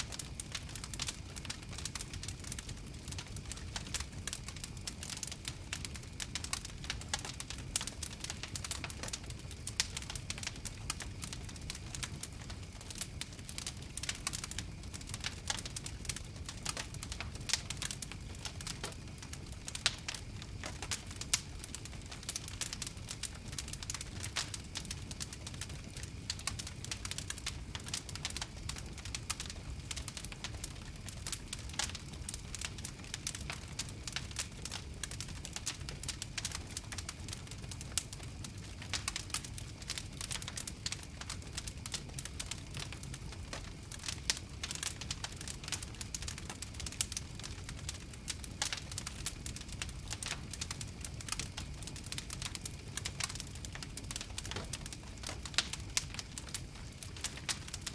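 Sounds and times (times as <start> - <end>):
campfire crackling: 0.0 - 57.9.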